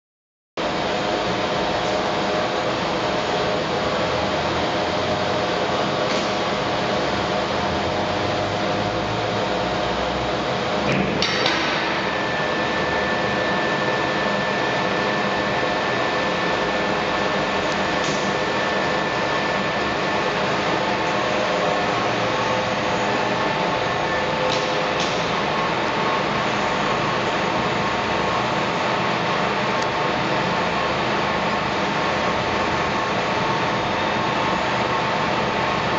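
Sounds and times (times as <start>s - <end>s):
lathe humming and whining: 0.6s - 35.9s.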